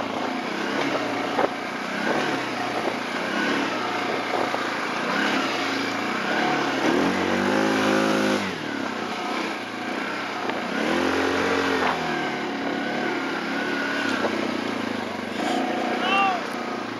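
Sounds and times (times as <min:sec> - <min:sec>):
quad engines revving: 0:00.0 - 0:16.9.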